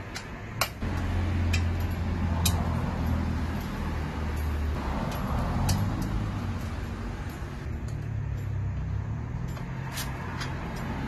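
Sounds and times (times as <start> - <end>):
metallic clicks of hand tools: 0.0 - 11.0.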